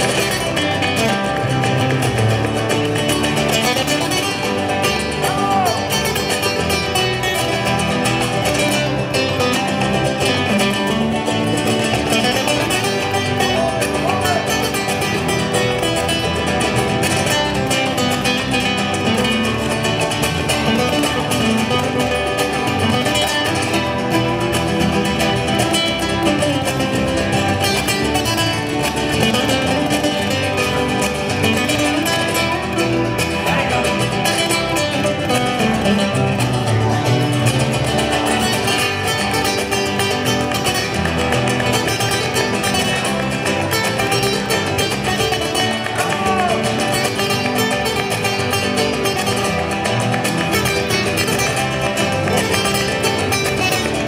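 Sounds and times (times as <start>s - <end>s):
acoustic guitar duet: 0.0s - 54.0s.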